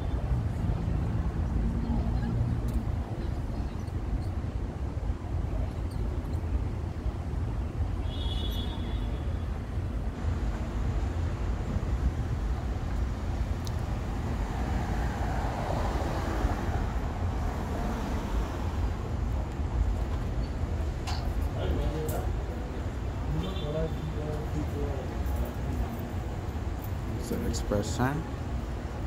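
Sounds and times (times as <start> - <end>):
city street traffic rumble: 0.0 - 29.0.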